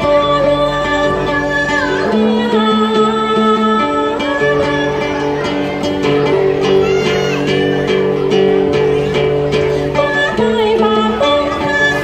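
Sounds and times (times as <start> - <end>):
folk singing with sliding notes: 0.0 - 12.0
plucked lute: 0.0 - 12.0.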